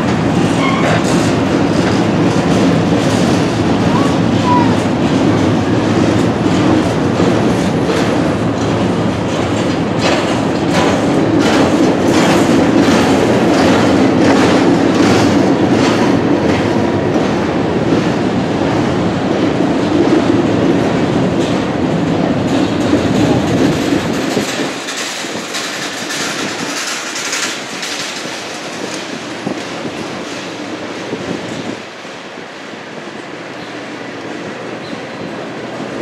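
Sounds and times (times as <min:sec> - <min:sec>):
freight cars rolling rumble: 0:00.0 - 0:36.0
wheels clacking over rail joints: 0:00.0 - 0:36.0.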